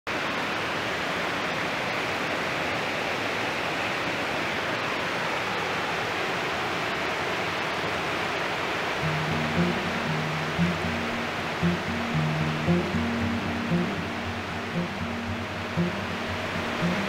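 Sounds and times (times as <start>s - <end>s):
flowing water rushing: 0.1s - 17.0s.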